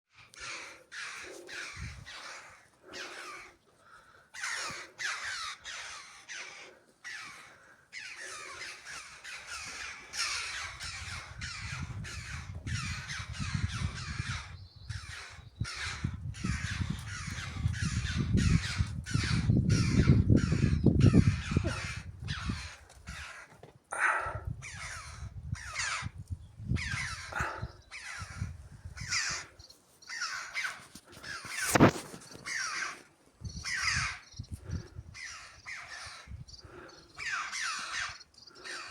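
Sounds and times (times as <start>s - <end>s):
birds giving alarm calls: 0.4s - 3.5s, 4.3s - 38.9s.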